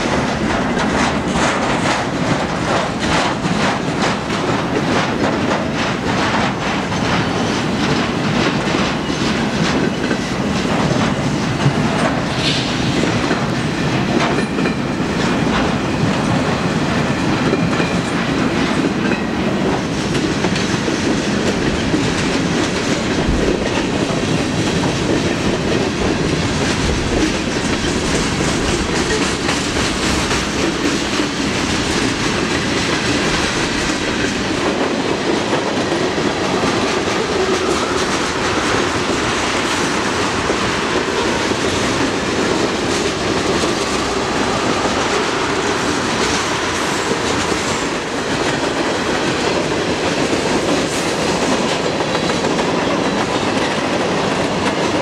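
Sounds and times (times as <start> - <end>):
freight train wheels rumbling on rail: 0.0 - 55.0
wheels clacking over rail joints: 0.0 - 55.0.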